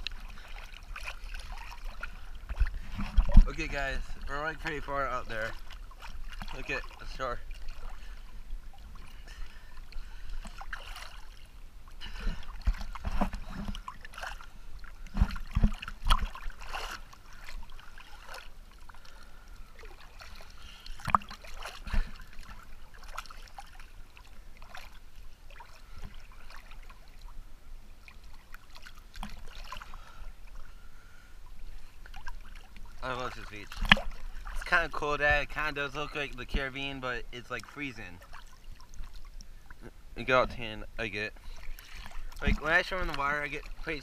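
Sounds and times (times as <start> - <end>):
water lapping and splashing: 0.0 - 44.0.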